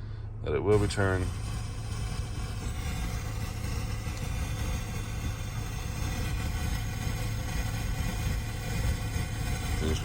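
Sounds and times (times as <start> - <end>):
car engine rumbling from inside: 0.0 - 10.0.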